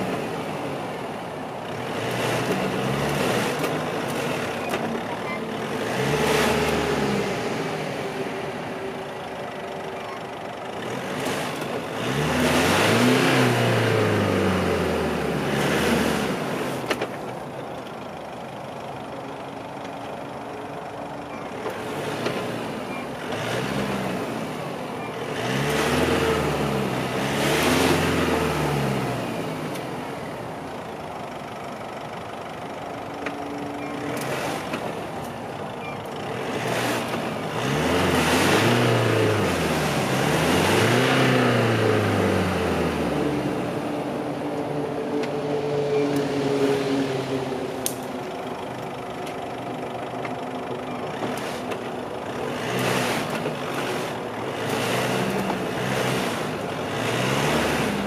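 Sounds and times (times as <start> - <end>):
truck engine revving: 0.0 - 18.9, 19.5 - 58.0.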